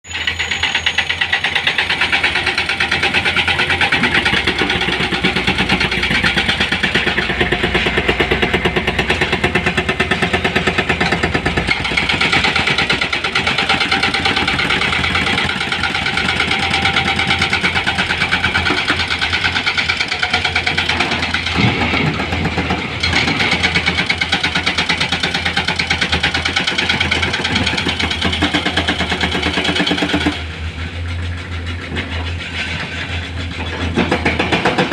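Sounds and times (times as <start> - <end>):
heavy diesel engine running: 0.1 - 34.9.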